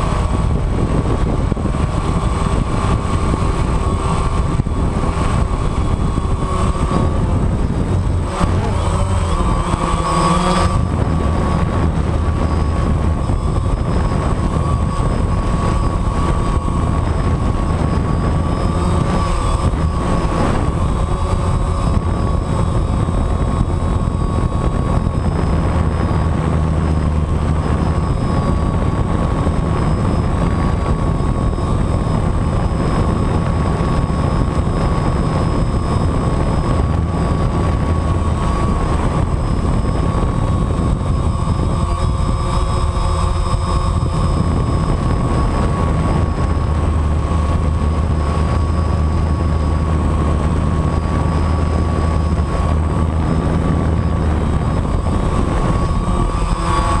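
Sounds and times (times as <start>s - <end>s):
quadcopter motors droning: 0.0s - 57.0s.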